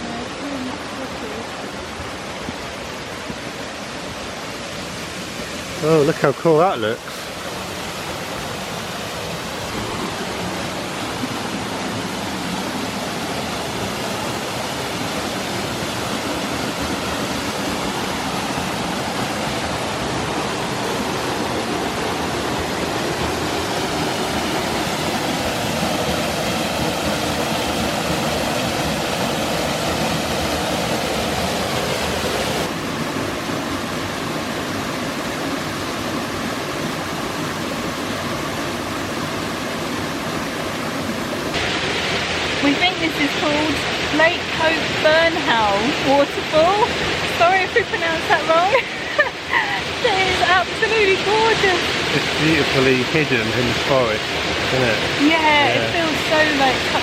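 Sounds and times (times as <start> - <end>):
waterfall pouring into pool: 0.0 - 47.6, 48.6 - 57.0.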